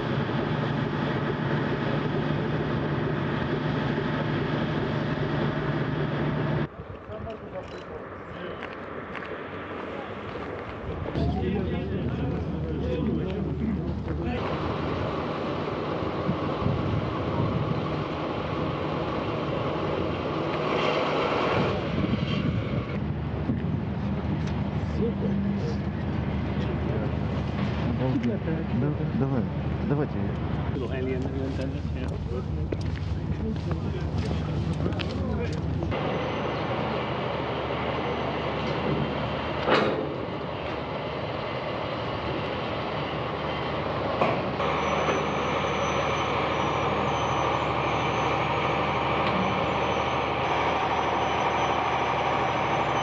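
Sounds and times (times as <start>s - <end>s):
train engine drone and rumble: 0.0s - 53.0s.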